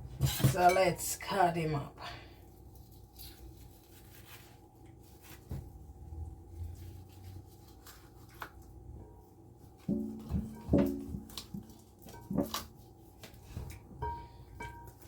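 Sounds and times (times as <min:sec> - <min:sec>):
rubbing and handling raw chicken: 0:02.4 - 0:15.0.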